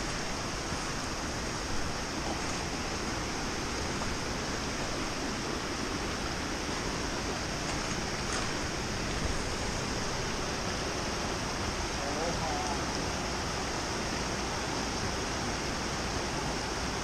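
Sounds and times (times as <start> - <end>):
river water rushing over rocks: 0.0 - 17.0.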